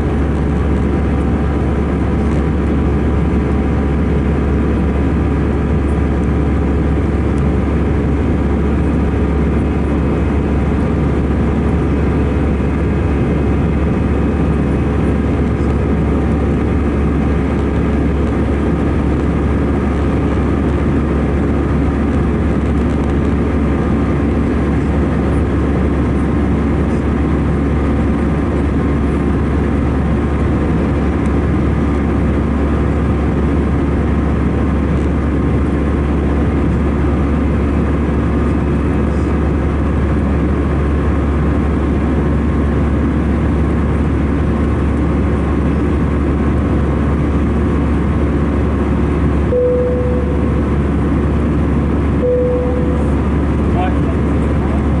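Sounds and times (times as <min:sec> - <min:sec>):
airplane cabin engine roar: 0:00.0 - 0:55.0.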